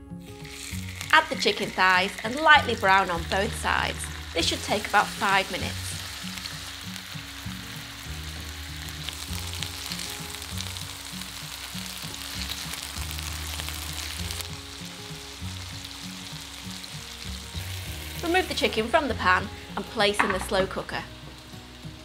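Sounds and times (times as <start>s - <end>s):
background music with bass: 0.0s - 22.0s
chicken sizzling in frying pan: 0.2s - 22.0s.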